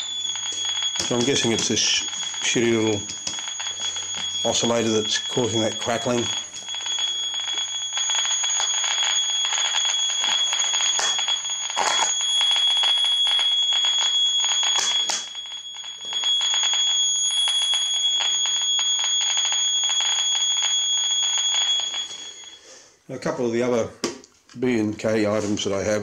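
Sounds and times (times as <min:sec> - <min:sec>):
crackling and clicking: 0:00.0 - 0:22.6
high-pitched test tone: 0:00.0 - 0:22.6.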